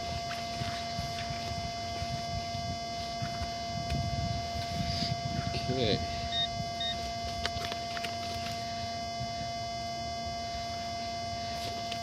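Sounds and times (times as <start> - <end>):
electronic hum: 0.0 - 12.0
metal detector beeps: 0.0 - 12.0.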